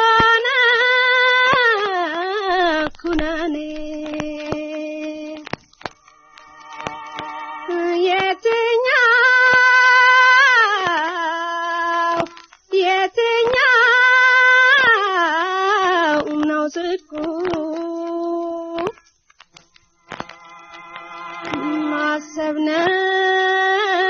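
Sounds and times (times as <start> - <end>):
faint clicks: 0.0 - 23.0.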